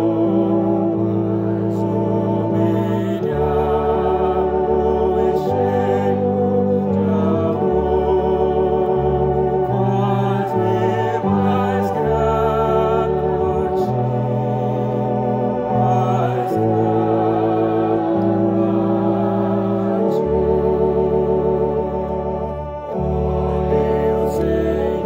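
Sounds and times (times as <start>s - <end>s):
electronic organ playing hymn: 0.0s - 25.0s.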